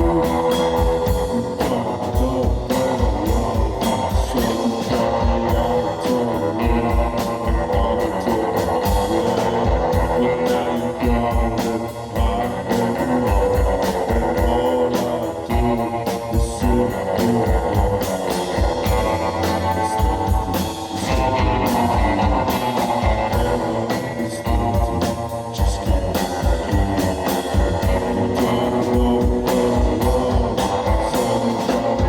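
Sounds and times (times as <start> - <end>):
music with guitar and organ: 0.0 - 32.0.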